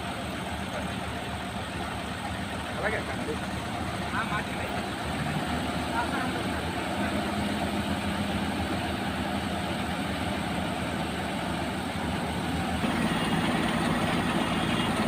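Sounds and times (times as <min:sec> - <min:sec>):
heavy vehicle engines rumbling: 0:00.0 - 0:15.0.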